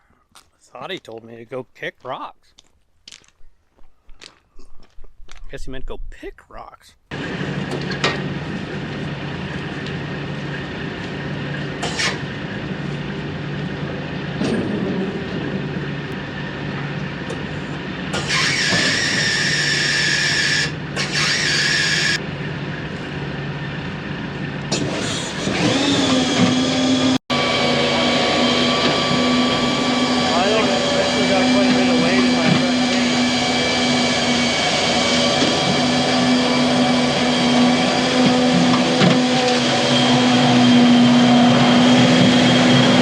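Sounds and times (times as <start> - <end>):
diesel truck engine running: 7.1 - 43.0
machine drone: 7.1 - 43.0.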